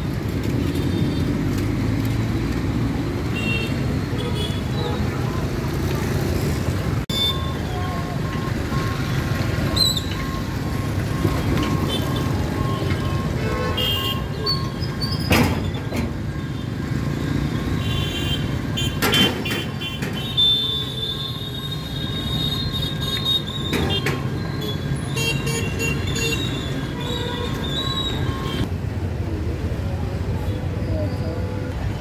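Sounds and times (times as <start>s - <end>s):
traffic engine rumble: 0.0s - 32.0s.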